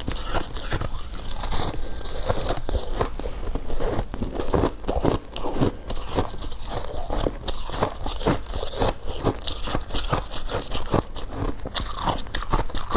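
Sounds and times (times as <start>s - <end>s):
ice being chewed: 0.0s - 12.9s.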